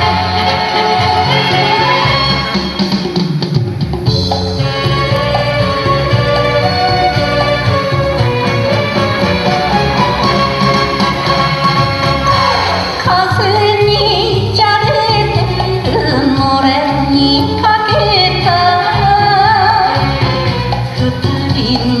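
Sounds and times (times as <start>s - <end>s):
instrumental pop song: 0.0s - 22.0s.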